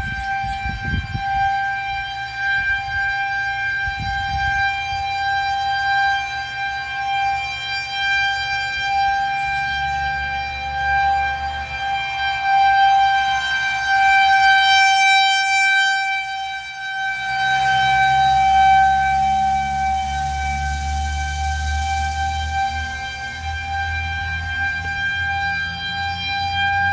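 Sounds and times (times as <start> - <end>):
warning siren steady tone: 0.0 - 26.9.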